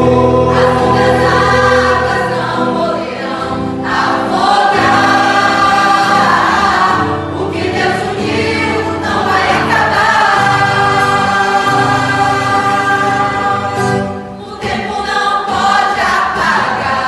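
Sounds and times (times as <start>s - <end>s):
mixed choir singing a hymn: 0.0s - 17.0s.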